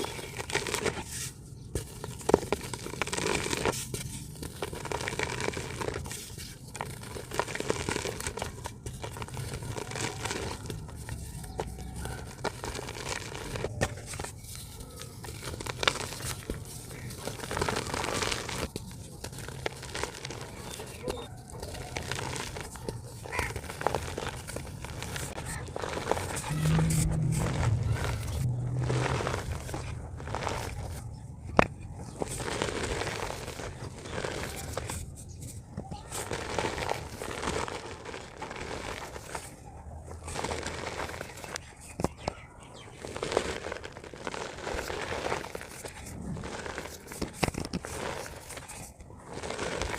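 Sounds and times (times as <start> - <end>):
dry dirt crumbling and crackling: 0.0 - 49.9.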